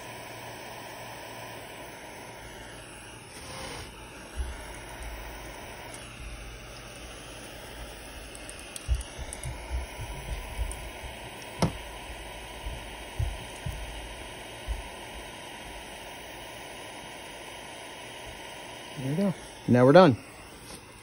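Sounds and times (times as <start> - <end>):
gas soldering iron hissing: 0.0 - 21.0.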